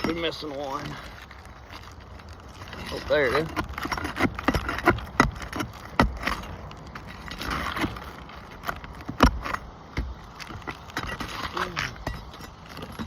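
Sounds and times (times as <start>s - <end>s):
tool prying under shingles: 0.0s - 13.0s.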